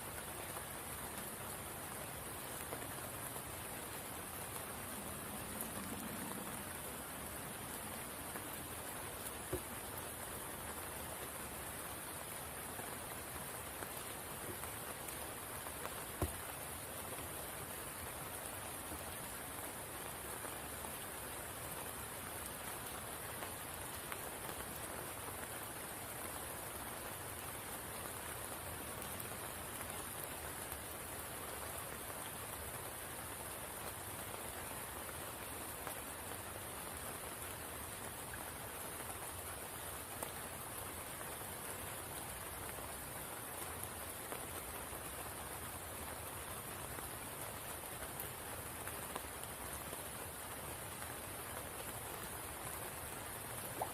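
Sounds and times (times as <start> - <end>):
rain falling on a pool: 0.0 - 53.9.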